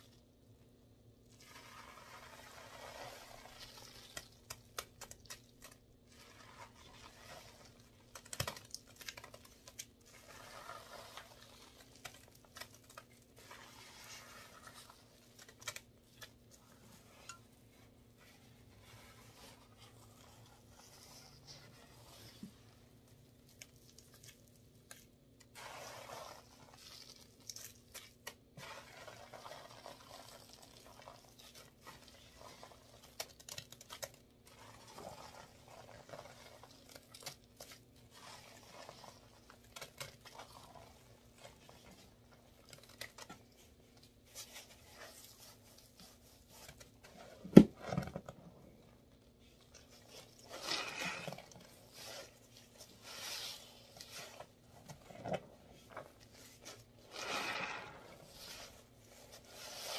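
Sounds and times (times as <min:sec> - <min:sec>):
sponge squishing through paste: 0:00.0 - 0:59.9.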